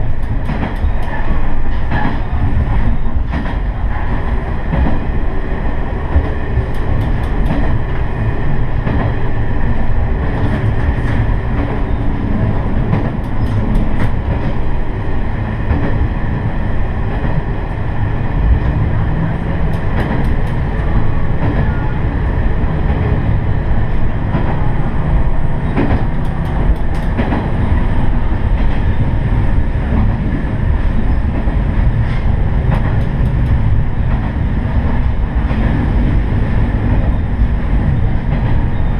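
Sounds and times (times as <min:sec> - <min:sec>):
railcar rumble: 0:00.0 - 0:38.9.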